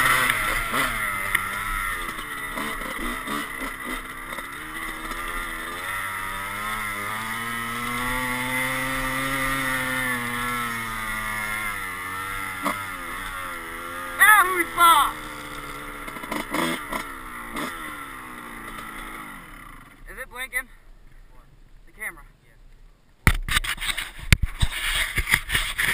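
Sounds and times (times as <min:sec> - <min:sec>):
dirt bike engine: 0:00.0 - 0:20.9, 0:23.2 - 0:25.9.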